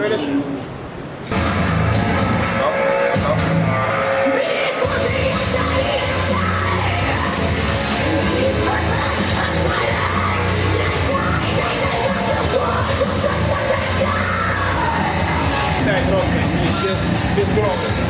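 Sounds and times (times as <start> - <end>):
heavy metal music with screamed vocals: 1.4 - 18.0.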